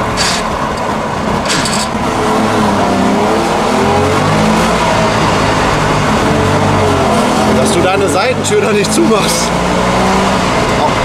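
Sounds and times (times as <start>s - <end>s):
two-stroke engine driving: 0.0s - 11.0s.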